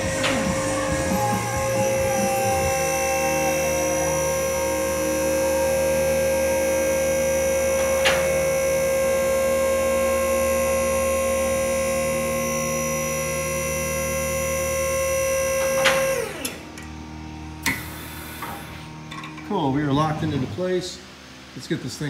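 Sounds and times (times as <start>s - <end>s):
hydraulic motor and pump humming: 0.0s - 22.0s.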